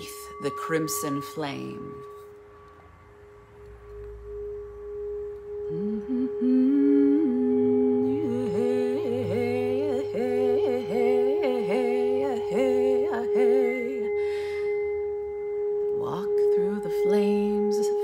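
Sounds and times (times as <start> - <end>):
woman singing wordless melody: 0.0 - 2.2, 5.5 - 18.0
singing bowl ringing tone: 0.0 - 18.0.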